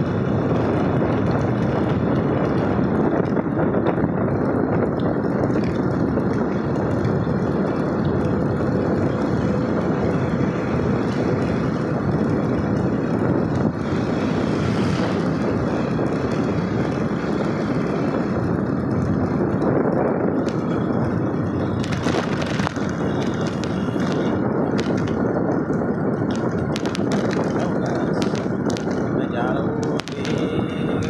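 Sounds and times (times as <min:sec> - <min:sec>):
vehicle running rumble: 0:00.0 - 0:31.0.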